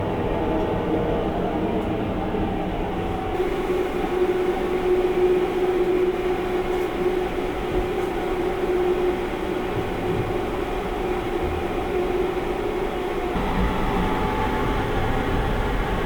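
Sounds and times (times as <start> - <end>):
train rumble on board: 0.0 - 16.0.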